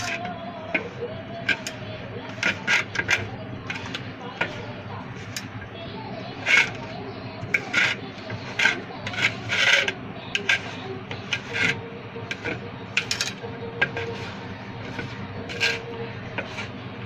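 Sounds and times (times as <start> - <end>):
fingers scraping prawns on metal plate: 0.0 - 5.6, 6.3 - 16.9.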